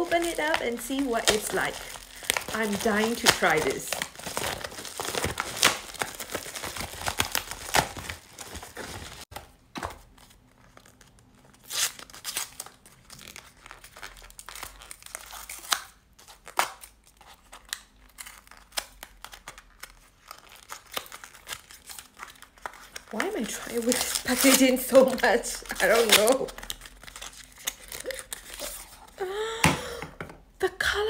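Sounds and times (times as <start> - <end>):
packaging crinkling and tearing: 0.0 - 9.4, 10.0 - 29.2.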